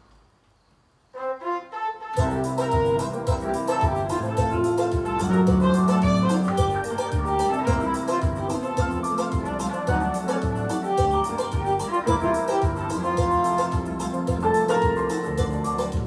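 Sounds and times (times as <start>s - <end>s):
electronic keyboard melody: 2.1s - 16.0s
drums and bass backing: 2.2s - 16.0s.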